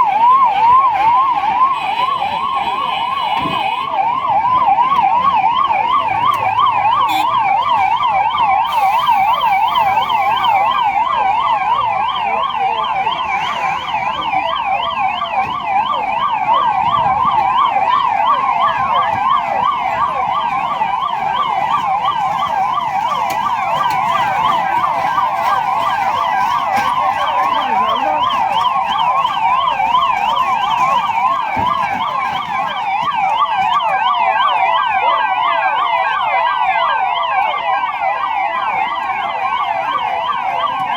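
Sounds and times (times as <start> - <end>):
siren yelping: 0.0 - 40.9.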